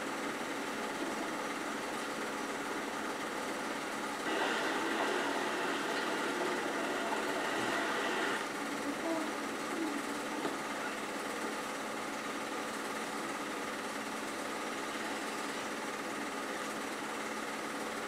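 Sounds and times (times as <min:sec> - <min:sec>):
machine droning: 0:00.0 - 0:18.0.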